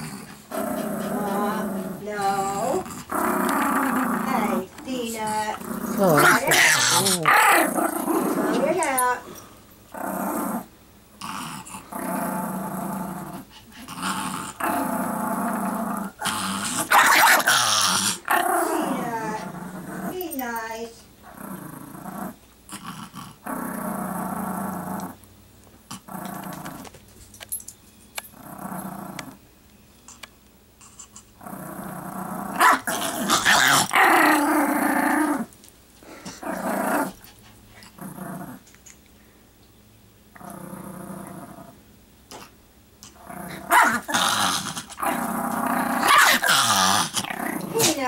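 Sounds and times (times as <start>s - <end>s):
small dog growling: 0.0s - 20.4s, 21.2s - 27.0s, 28.3s - 29.4s, 30.1s - 38.9s, 40.3s - 48.0s.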